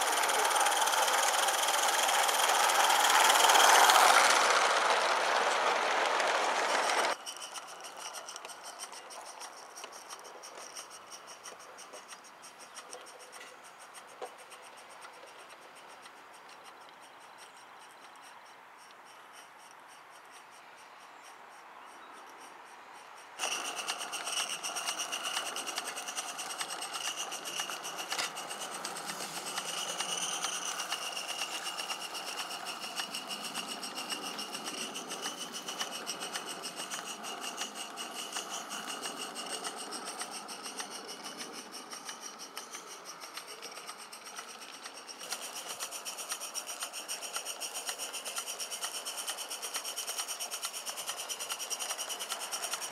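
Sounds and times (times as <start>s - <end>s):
steam locomotive exhaust beats: 0.0s - 52.9s.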